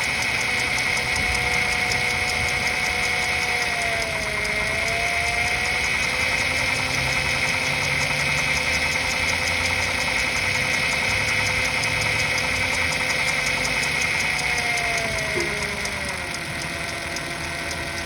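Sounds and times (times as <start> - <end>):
car engine idling: 0.0 - 18.0
fast knocking tick: 0.0 - 18.0.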